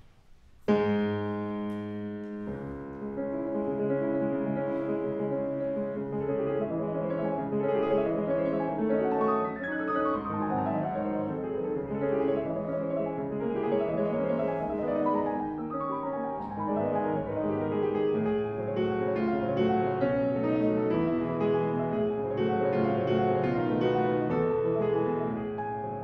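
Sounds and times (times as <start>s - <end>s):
solo classical piano: 0.0s - 26.0s.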